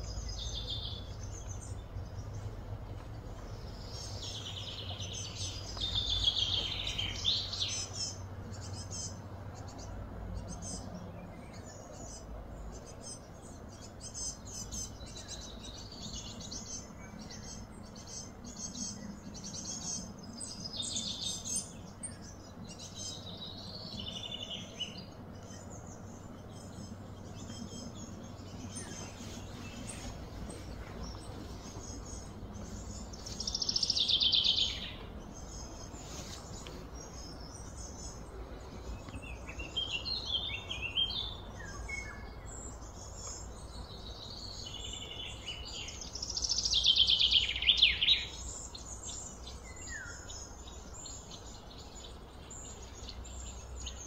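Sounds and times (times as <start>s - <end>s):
birds chirping and trilling: 0.0s - 54.0s
low background hum: 0.0s - 54.0s.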